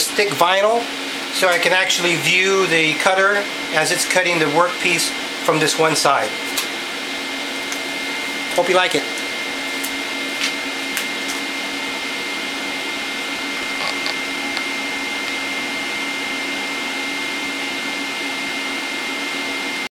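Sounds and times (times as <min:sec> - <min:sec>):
dust collector air rush and motor: 0:00.0 - 0:19.9
high whine: 0:00.0 - 0:19.9.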